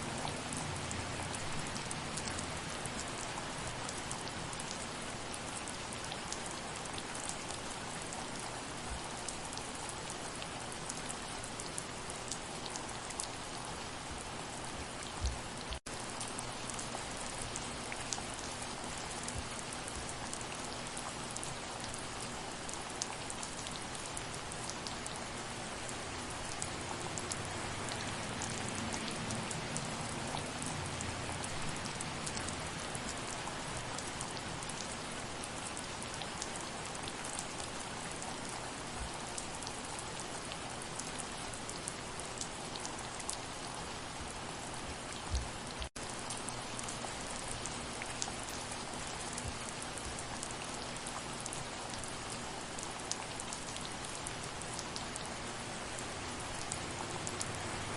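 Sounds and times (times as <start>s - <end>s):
raindrops ticking on a surface: 0.0s - 57.9s
soft rain: 0.0s - 57.9s.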